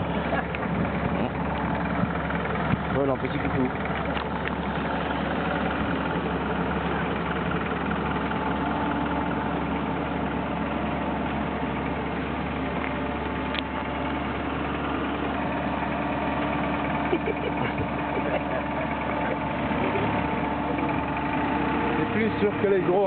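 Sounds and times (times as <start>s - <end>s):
small plane engine drone: 0.0s - 23.0s.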